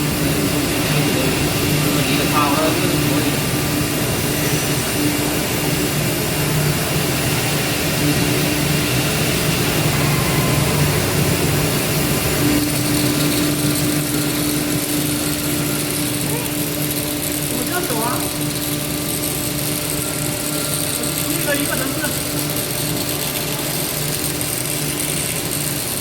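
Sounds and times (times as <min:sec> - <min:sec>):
router machine whirring: 0:00.0 - 0:26.0.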